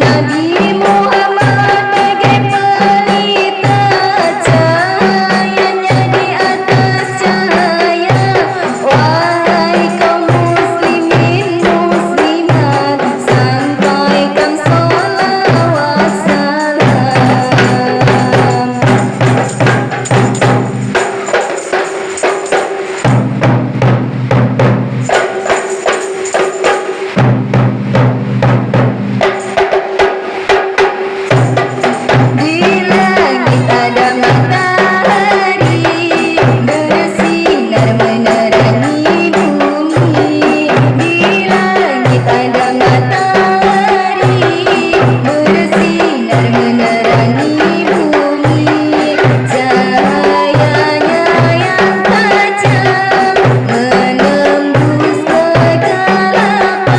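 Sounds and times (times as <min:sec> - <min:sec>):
tambourine and frame drums: 0:00.0 - 0:56.9.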